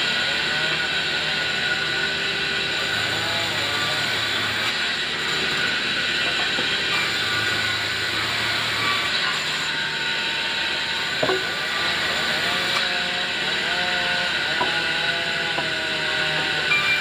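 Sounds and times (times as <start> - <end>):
band saw blade cutting wood: 0.0 - 17.0.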